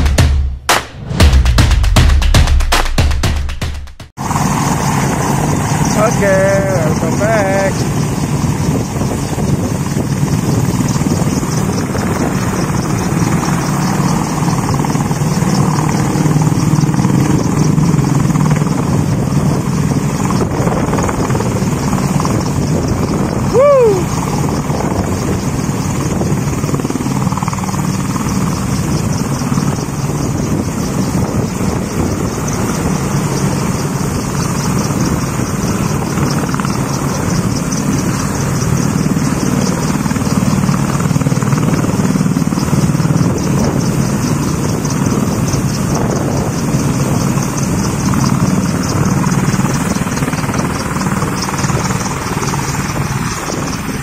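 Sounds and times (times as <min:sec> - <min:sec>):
helicopter engine noise: 0:00.0 - 0:01.2, 0:04.0 - 0:54.0
helicopter rotor blades beating: 0:00.0 - 0:54.0.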